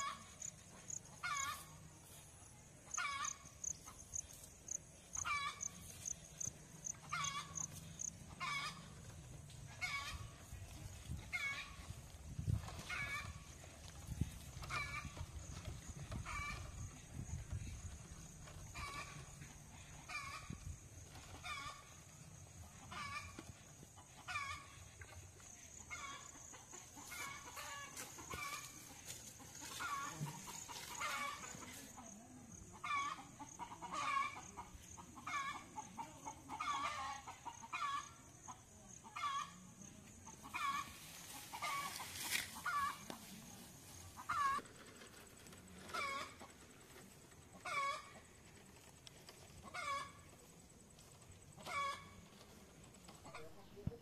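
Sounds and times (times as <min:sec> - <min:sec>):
chicken clucking: 0:00.0 - 0:54.0.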